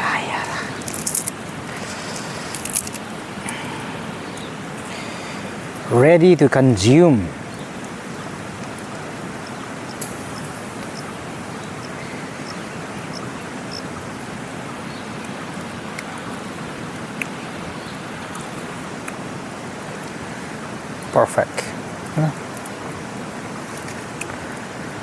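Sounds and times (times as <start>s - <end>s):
river rushing: 0.0s - 25.0s.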